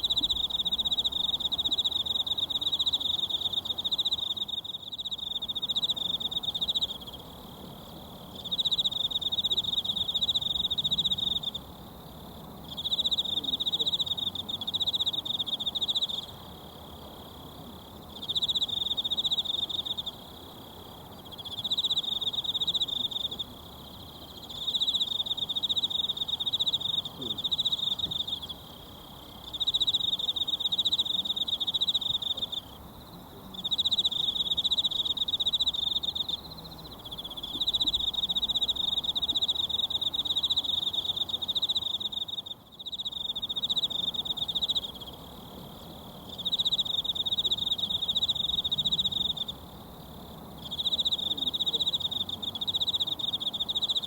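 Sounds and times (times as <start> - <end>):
insect trilling: 0.0 - 7.4, 12.6 - 16.4, 18.1 - 54.0.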